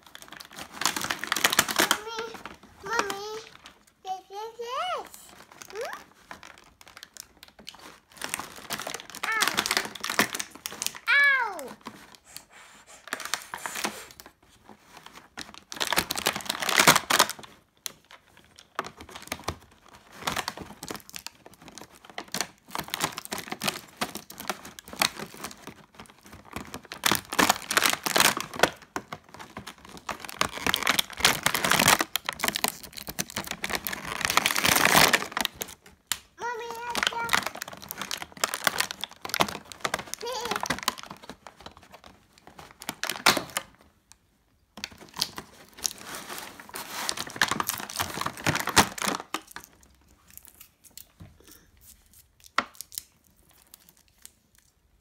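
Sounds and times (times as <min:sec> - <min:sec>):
plastic tray crinkling: 0:00.0 - 0:12.1, 0:13.2 - 0:43.9, 0:44.8 - 0:51.2.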